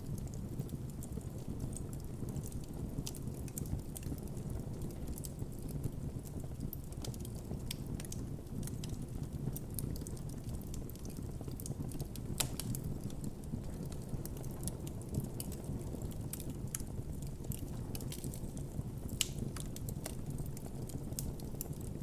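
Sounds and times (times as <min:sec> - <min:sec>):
campfire burning and crackling: 0:00.0 - 0:22.0.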